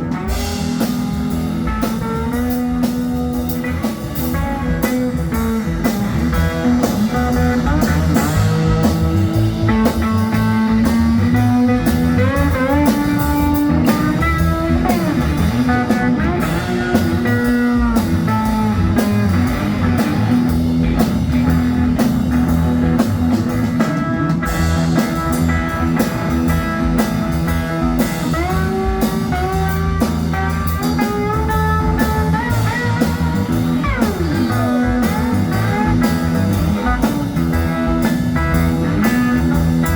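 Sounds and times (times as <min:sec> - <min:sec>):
blues guitar with sliding notes: 0:00.0 - 0:39.9
steady drum beat: 0:00.0 - 0:39.9.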